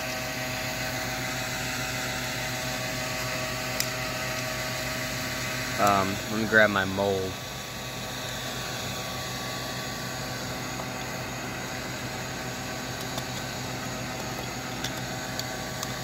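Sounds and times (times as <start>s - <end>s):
furnace burning with rushing hum: 0.0s - 16.0s.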